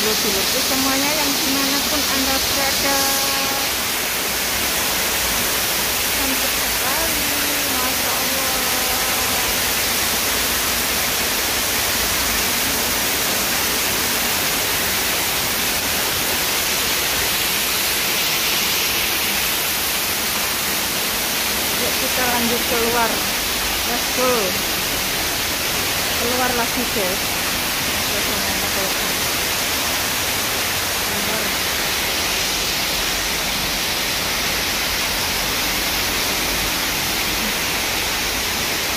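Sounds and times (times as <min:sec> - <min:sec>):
waterfall splashing into pool: 0:00.0 - 0:38.9.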